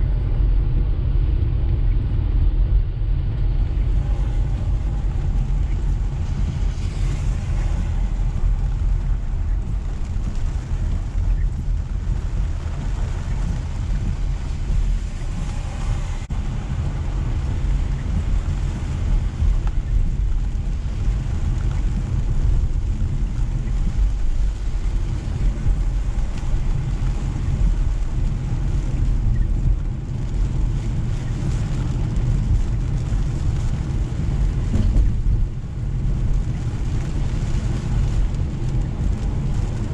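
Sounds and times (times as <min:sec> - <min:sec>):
car road and engine rumble: 0:00.0 - 0:39.9
rain and wet tyres hissing: 0:00.0 - 0:39.9.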